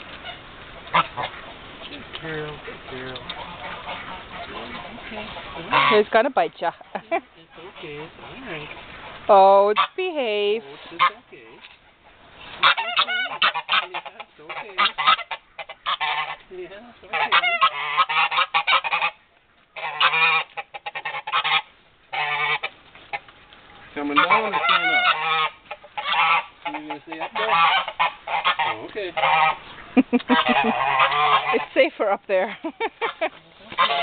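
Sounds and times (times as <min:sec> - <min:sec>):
geese honking: 0:00.0 - 0:34.0.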